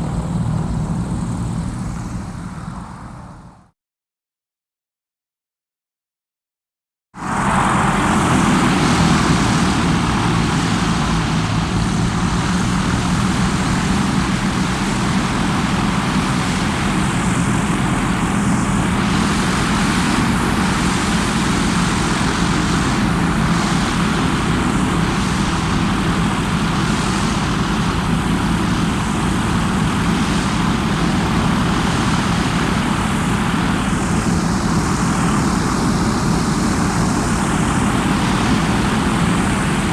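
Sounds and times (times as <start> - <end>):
propeller engines droning: 0.0 - 3.7, 7.2 - 39.9.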